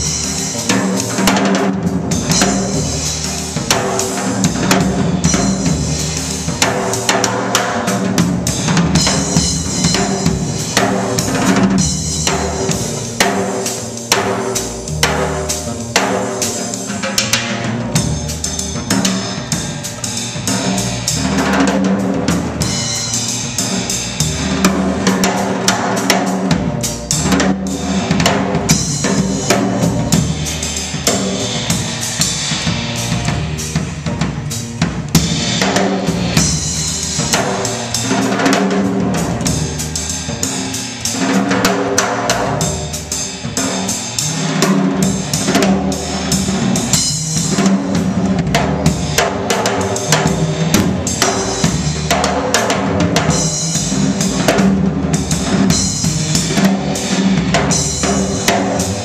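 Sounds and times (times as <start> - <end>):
drum kit: 0.0 - 59.0
jazz band playing: 0.0 - 59.0.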